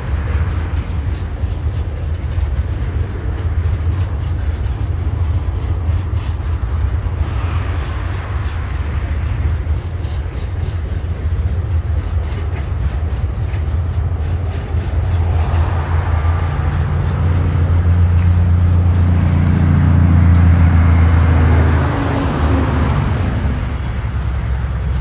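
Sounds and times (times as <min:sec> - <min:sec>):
low train engine drone: 0:00.0 - 0:25.0
wagon wheels clicking on rails: 0:00.0 - 0:25.0.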